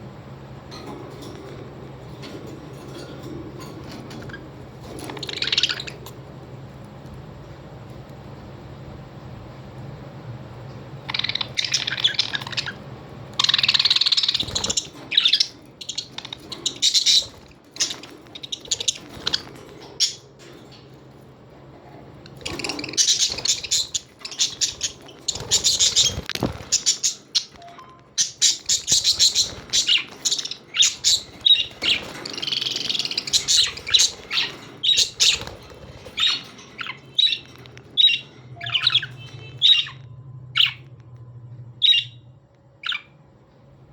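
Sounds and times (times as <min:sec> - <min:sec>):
parrots chirping and squawking: 0:00.7 - 0:06.8, 0:10.7 - 0:40.9, 0:41.8 - 0:43.2.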